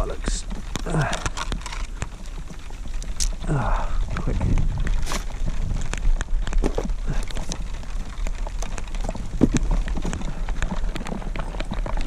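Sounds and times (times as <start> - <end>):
heavy rain falling: 0.0 - 12.0
raindrops tapping close by: 0.0 - 12.0.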